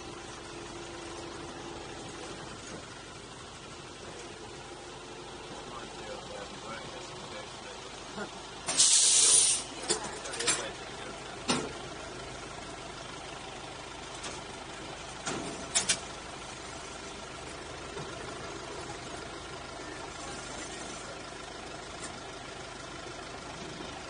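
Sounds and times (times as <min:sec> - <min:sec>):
train engine idling: 0:00.0 - 0:24.0.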